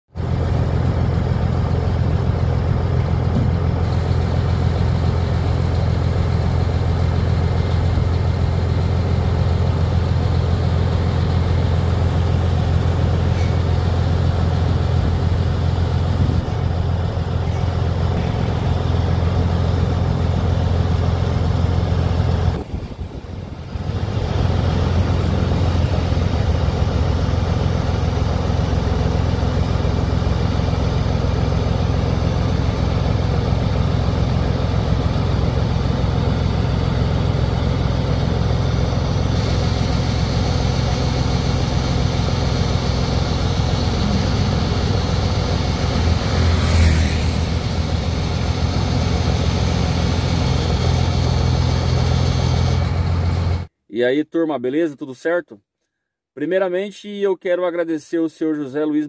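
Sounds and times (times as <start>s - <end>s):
diesel truck engine running: 0.1s - 53.7s.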